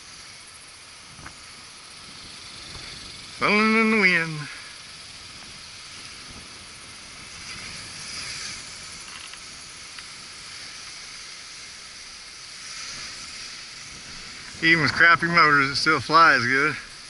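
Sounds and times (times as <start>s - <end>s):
distant drone motors whining: 0.0s - 17.0s
wind hiss: 0.0s - 17.0s.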